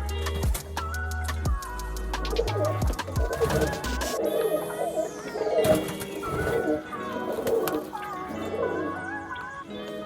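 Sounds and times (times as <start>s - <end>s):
light background music: 0.0s - 10.0s
pigeons cooing: 1.6s - 9.9s.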